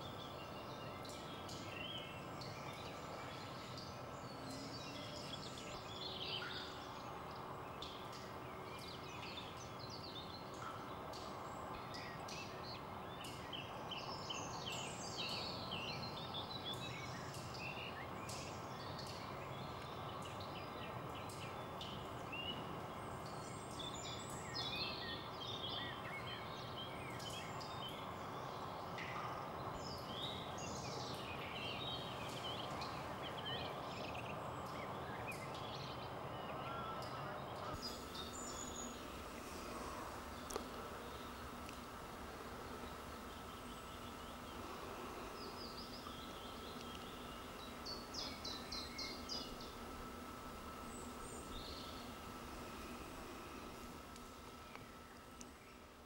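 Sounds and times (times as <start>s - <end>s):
small birds chirping: 0.0s - 56.0s
steady background hiss: 0.0s - 56.0s.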